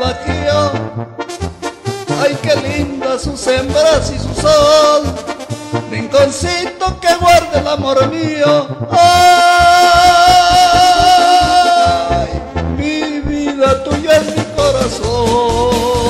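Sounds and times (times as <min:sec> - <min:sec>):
ranchera music: 0:00.0 - 0:16.0.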